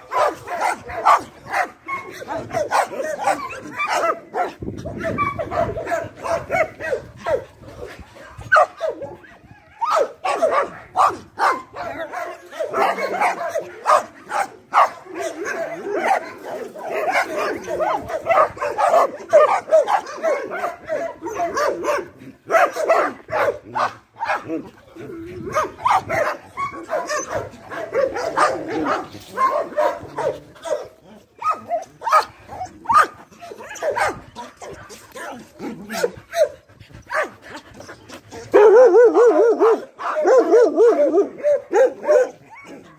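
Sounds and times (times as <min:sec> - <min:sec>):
dogs barking and yipping: 0:00.0 - 0:42.9.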